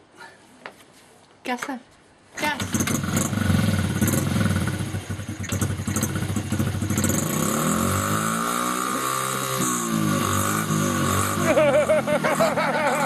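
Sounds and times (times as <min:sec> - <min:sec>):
small motorbike engine revving: 0:02.4 - 0:13.0.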